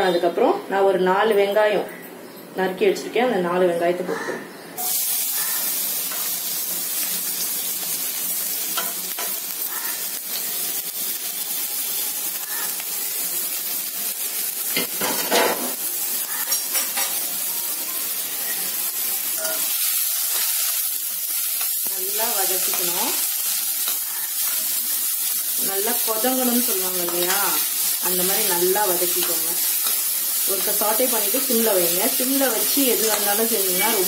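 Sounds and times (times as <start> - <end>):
onions sizzling in oil: 4.8 - 34.0.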